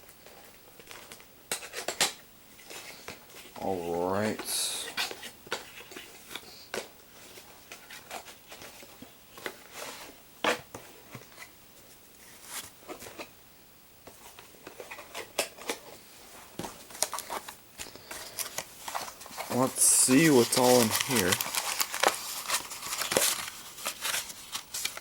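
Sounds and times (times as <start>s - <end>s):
cardboard and plastic rustling: 2.6s - 13.3s, 14.0s - 25.0s.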